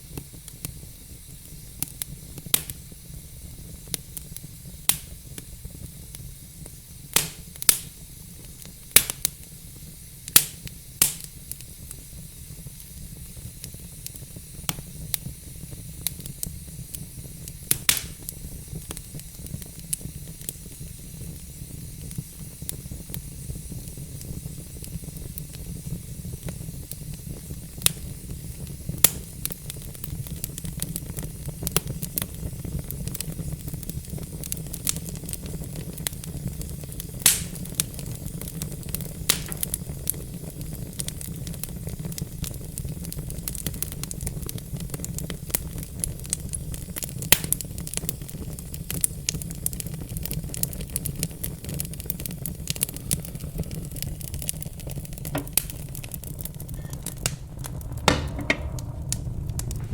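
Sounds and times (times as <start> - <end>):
wood fire crackling: 0.0 - 59.9
sharp pops of fire: 0.1 - 59.9.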